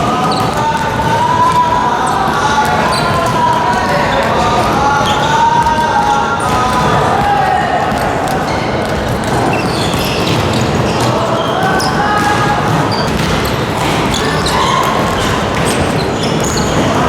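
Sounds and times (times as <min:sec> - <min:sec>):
basketballs bouncing on wooden floor: 0:00.0 - 0:17.0
murmur of voices: 0:00.0 - 0:17.0.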